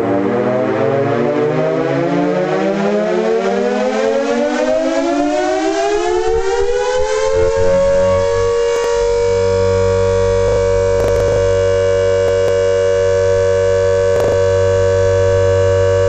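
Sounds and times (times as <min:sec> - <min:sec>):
emergency siren winding up: 0:00.0 - 0:16.0.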